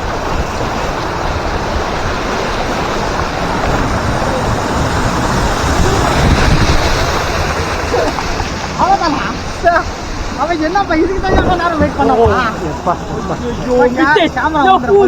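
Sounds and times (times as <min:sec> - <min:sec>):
wind noise on microphone: 0:00.0 - 0:14.0
water rushing and splashing: 0:00.0 - 0:15.0.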